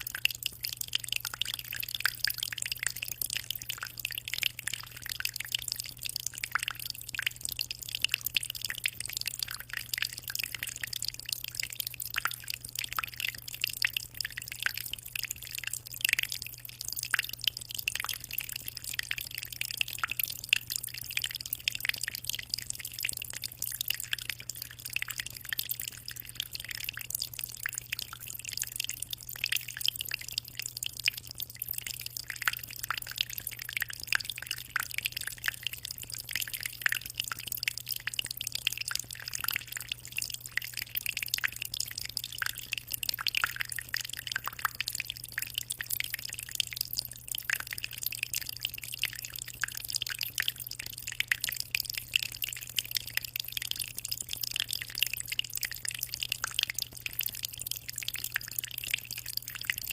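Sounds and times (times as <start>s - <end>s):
aquarium water splashing and trickling: 0.0s - 59.9s.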